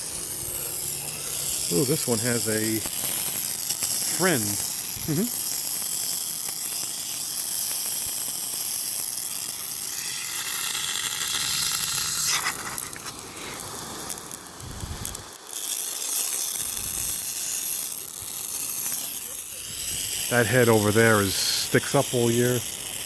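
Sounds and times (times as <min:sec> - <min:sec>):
sprinkler spraying water: 0:00.0 - 0:23.0.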